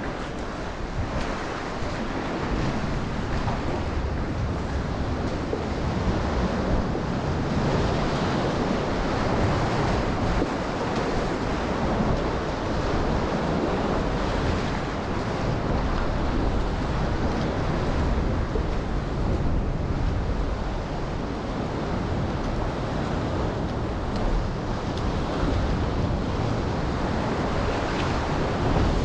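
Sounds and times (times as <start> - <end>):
ocean swell washing: 0.0 - 29.0
wind buffeting microphone: 0.0 - 29.0.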